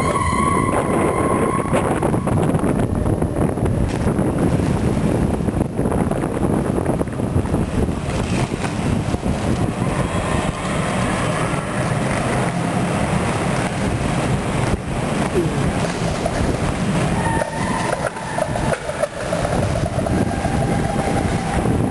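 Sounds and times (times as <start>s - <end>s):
wind buffeting microphone: 0.0s - 21.9s
skate wheels rolling on concrete: 1.2s - 21.9s.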